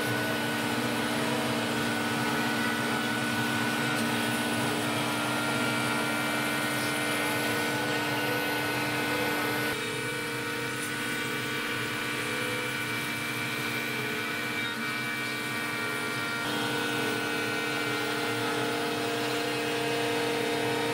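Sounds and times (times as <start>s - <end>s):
router spindle whining: 0.0s - 20.9s.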